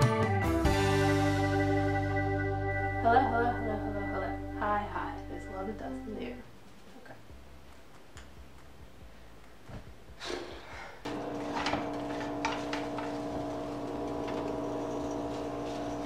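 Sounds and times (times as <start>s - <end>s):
multi-tone hum: 1.5s - 10.2s, 11.1s - 16.0s.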